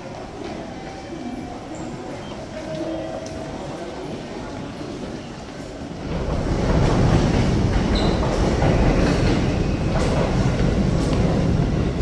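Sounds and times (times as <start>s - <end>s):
train rumble: 0.0s - 12.0s
wheels clacking on rails: 0.0s - 12.0s.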